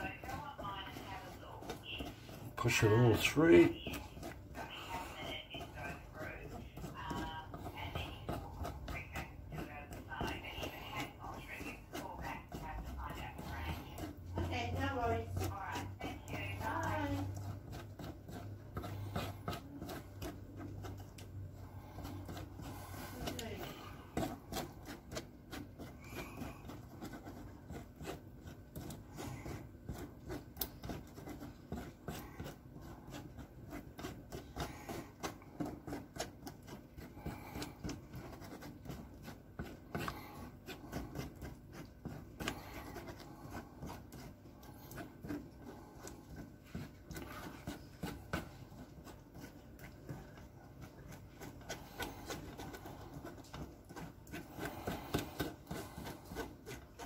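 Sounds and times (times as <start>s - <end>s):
wooden spoon scraping metal sieve: 0.0s - 57.0s.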